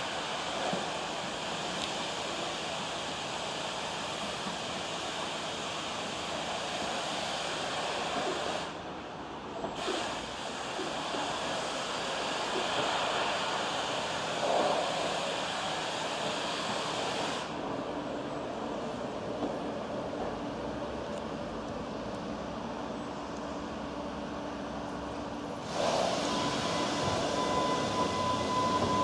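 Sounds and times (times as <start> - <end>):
electric train drawing in: 0.0 - 29.0.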